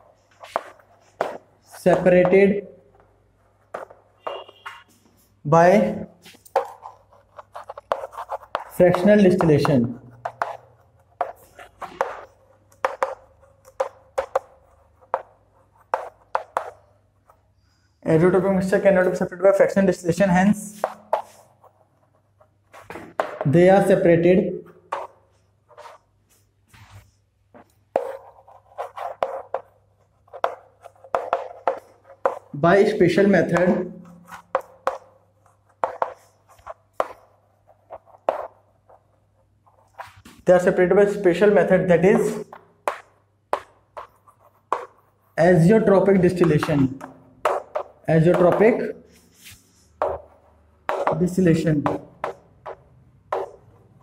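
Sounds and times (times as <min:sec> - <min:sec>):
chalk tapping and scraping on board: 0:00.0 - 0:54.0.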